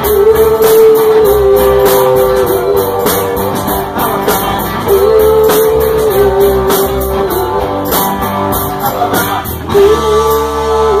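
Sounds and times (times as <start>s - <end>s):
person singing long notes: 0.0s - 8.0s, 8.8s - 11.0s
drums with steady cymbal beat: 0.0s - 11.0s
electric guitar: 0.0s - 11.0s.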